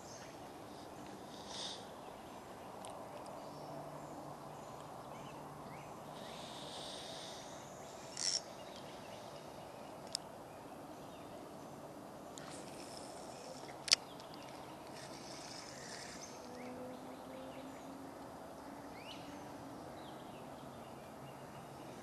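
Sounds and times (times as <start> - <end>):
outdoor creek background noise: 0.0 - 22.0.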